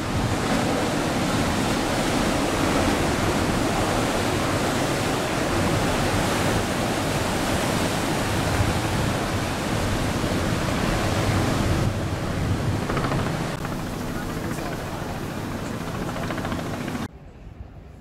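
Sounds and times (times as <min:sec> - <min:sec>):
big surf breaking: 0:00.0 - 0:17.1
wind on microphone: 0:00.0 - 0:18.0.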